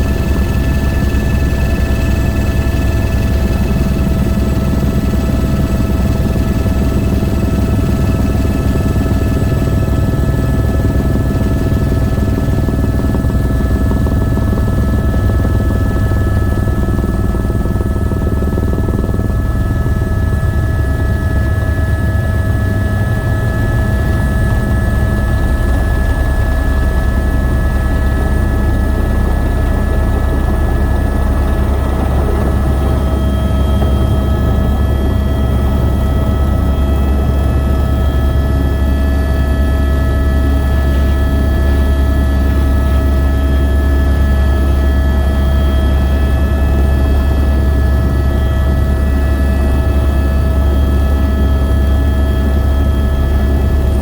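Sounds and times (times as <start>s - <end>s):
helicopter rotor throb: 0.0s - 54.0s
helicopter whining tones: 0.0s - 54.0s.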